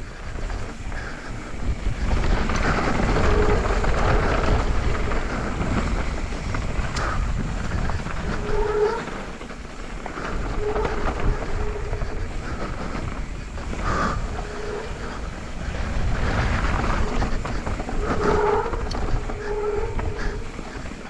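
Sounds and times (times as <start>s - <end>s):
bike tyres and frame rattling on dirt: 0.0s - 21.0s
wind buffeting microphone: 0.0s - 21.0s.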